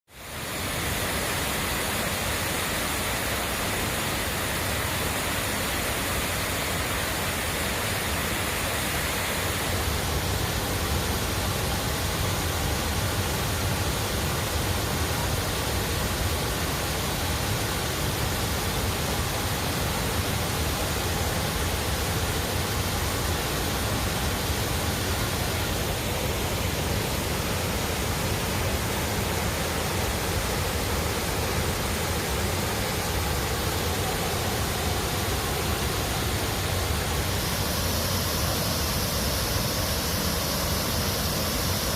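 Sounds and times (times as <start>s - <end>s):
waterfall roaring: 0.1s - 41.9s.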